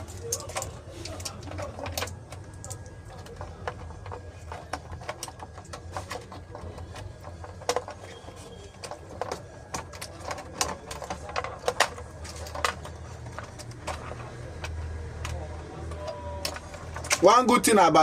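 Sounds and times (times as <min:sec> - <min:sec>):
plastic connectors clicking: 0:00.0 - 0:17.4.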